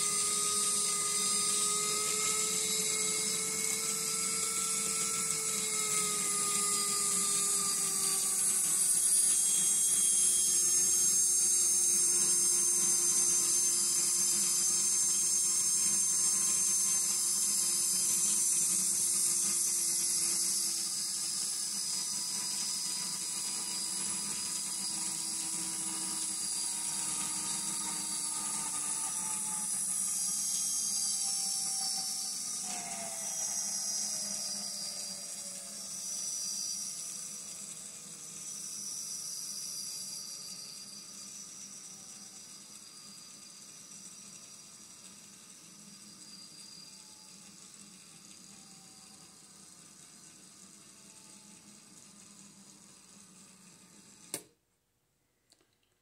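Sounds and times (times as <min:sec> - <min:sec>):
electronic locomotive engine drone: 0:00.0 - 0:54.3.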